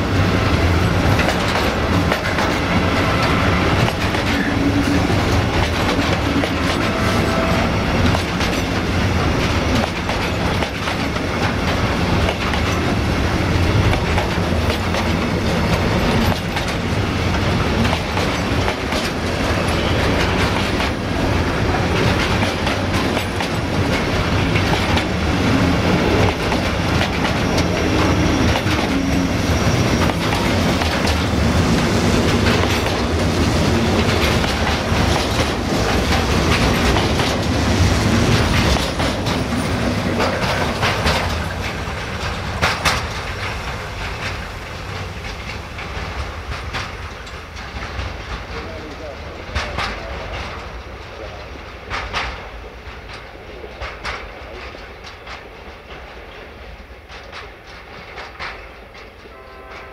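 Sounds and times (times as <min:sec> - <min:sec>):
train wheels rumbling on rails: 0:00.0 - 0:59.9
wheels clacking over rail joints: 0:00.1 - 0:59.9.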